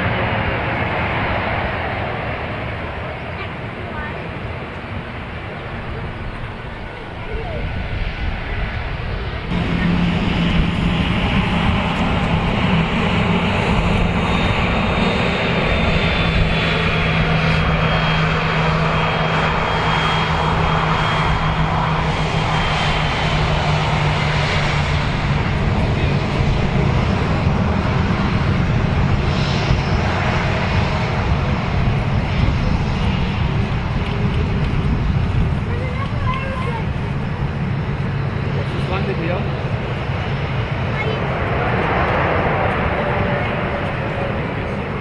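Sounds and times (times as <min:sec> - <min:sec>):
jet engines passing: 0:00.0 - 0:45.0.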